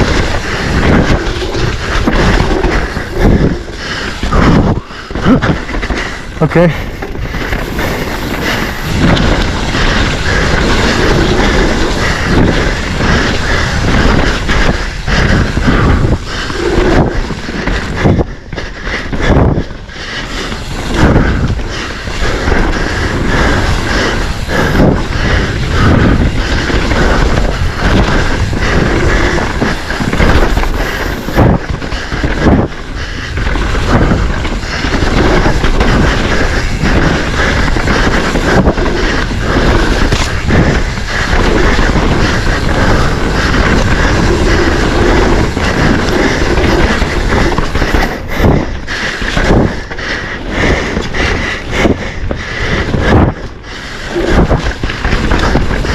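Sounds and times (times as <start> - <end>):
mountain bike rattling on trail: 0.0 - 55.9
tyre noise: 0.0 - 55.9.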